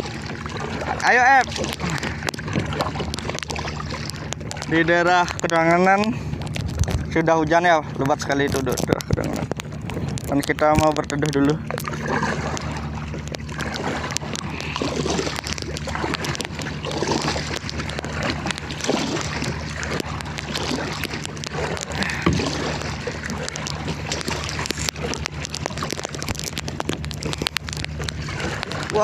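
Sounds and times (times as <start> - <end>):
small water splashes: 0.0 - 29.0
water sloshing around canoe: 0.0 - 29.0
wind hum on microphone: 0.0 - 29.0.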